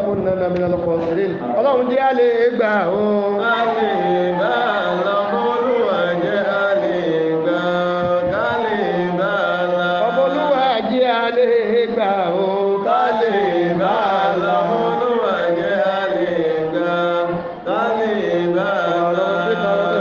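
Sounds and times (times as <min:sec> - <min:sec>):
person chanting melody: 0:00.0 - 0:20.0.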